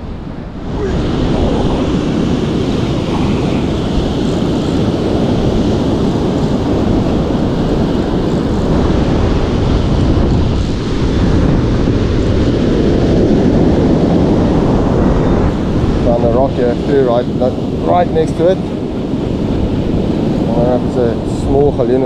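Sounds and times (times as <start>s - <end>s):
waves breaking on beach: 0.0s - 22.0s
wind buffeting microphone: 0.0s - 22.0s.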